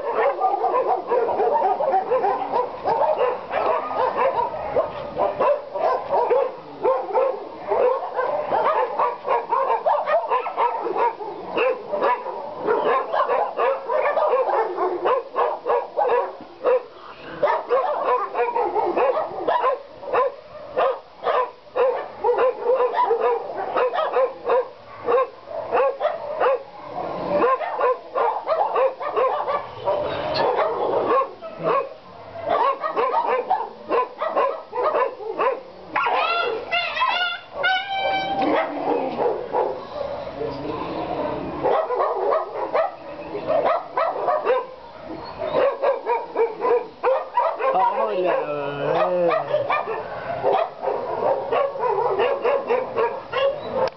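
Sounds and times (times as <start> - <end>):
many dogs barking: 0.0 - 53.9.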